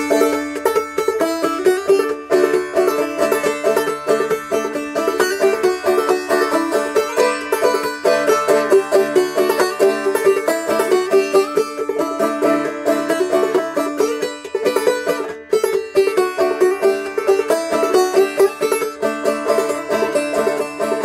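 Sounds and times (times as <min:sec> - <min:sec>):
banjo playing a carol melody: 0:00.0 - 0:21.0.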